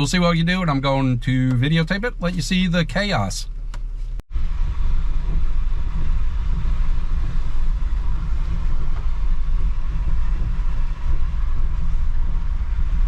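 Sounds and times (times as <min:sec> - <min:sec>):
vehicle engine and tyre rumble: 0:00.0 - 0:13.0.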